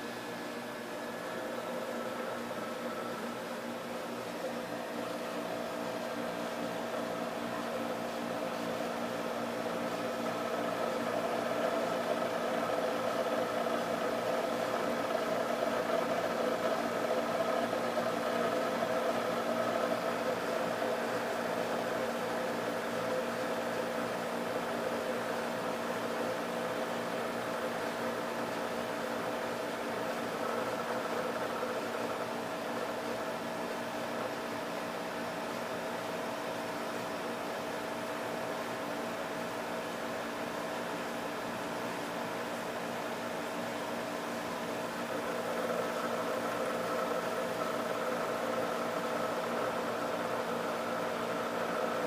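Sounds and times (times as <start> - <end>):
air conditioner humming: 0.0 - 52.0.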